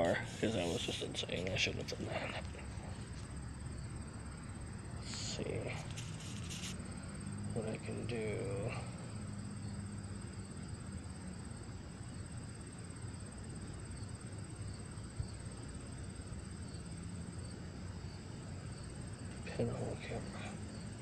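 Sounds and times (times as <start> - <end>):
insects chirring: 0.0 - 21.0
low steady hum: 0.0 - 21.0.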